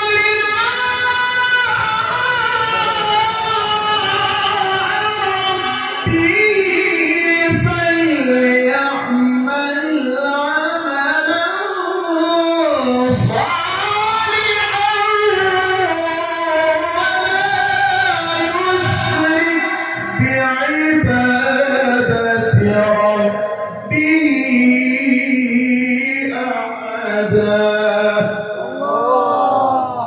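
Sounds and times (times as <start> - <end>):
man reciting melodically: 0.0 - 30.0.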